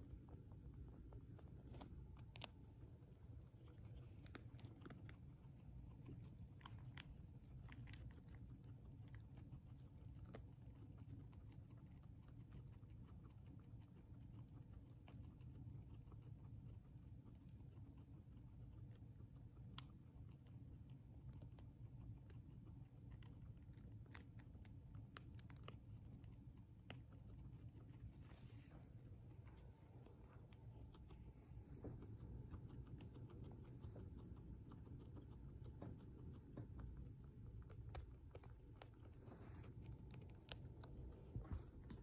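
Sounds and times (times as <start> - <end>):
guinea pig chewing crunchily: 0.0 - 42.0
low steady hum: 0.0 - 42.0.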